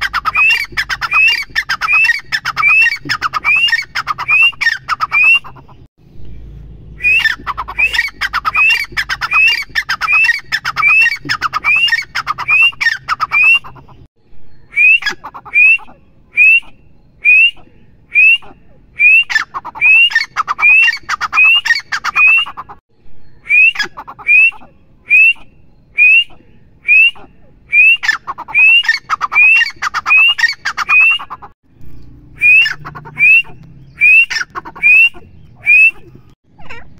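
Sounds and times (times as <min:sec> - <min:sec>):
bird whistled calls: 0:00.0 - 0:05.8, 0:06.9 - 0:36.4.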